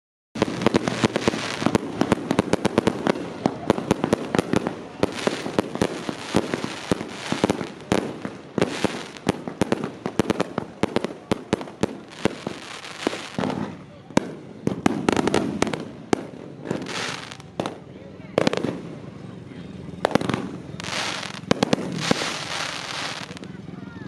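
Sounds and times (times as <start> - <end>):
fireworks bangs and crackles: 0.4 - 24.0.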